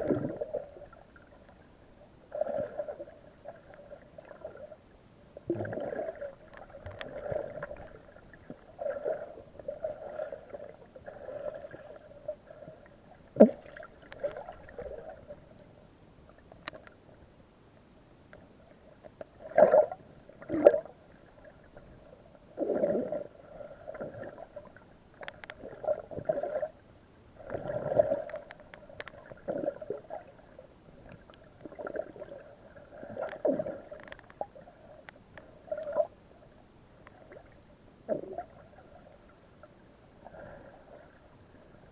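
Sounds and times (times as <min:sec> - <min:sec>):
underwater gurgling and breathing: 0:00.0 - 0:41.9.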